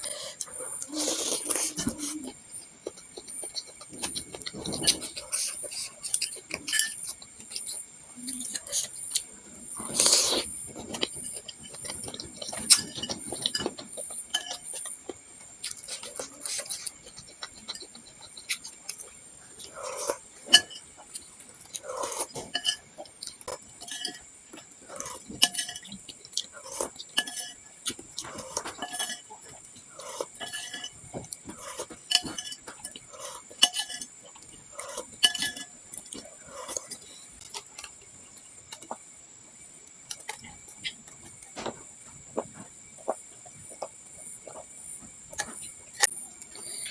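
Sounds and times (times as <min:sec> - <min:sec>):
mouth eating noises: 0:00.0 - 0:39.1
wet chewing: 0:00.4 - 0:39.0.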